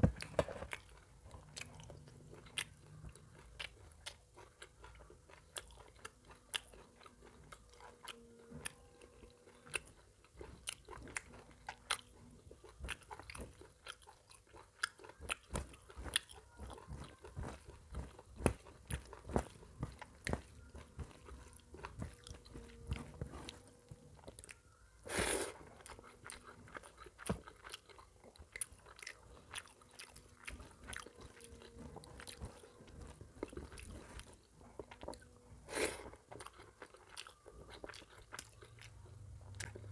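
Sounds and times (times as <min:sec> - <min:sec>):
chewing and biting: 0:00.0 - 0:24.7, 0:25.5 - 0:39.9.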